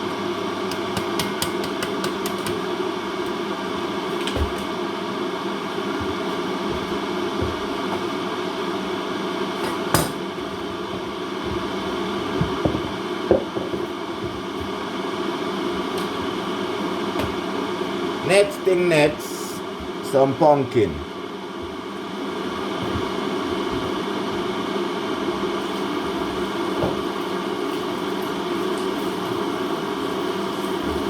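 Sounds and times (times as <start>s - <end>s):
kitchen hum: 0.4s - 31.0s.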